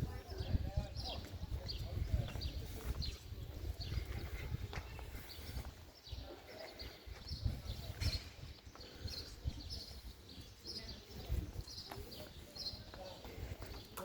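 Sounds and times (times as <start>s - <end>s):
footsteps on hard path: 1.1s - 14.0s.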